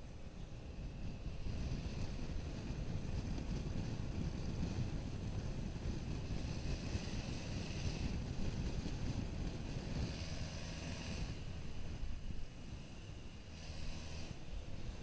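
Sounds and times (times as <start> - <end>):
wind buffeting microphone: 0.0 - 15.0
motorcycle engine running: 0.5 - 15.0.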